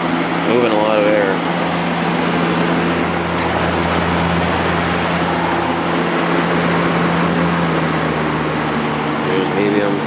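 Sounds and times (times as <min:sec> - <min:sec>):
fan motor hum: 0:00.0 - 0:10.0
rush of fan air: 0:00.0 - 0:10.0.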